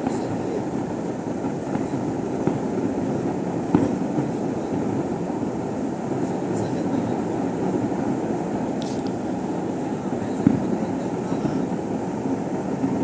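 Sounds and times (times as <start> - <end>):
distant fireworks rumble: 0.0 - 13.0
fireworks popping: 0.0 - 13.0.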